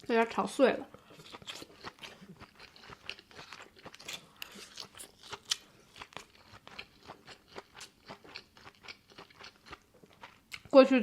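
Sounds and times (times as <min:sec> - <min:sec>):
person chewing food: 0:00.9 - 0:10.8.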